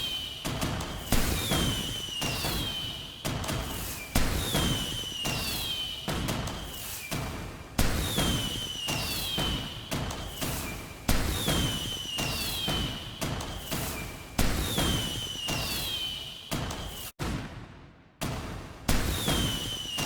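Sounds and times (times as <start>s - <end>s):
fireworks crackling: 0.0s - 17.1s, 18.9s - 20.0s
fireworks whistling: 0.0s - 17.2s, 18.9s - 20.0s
fireworks bangs: 0.0s - 20.0s.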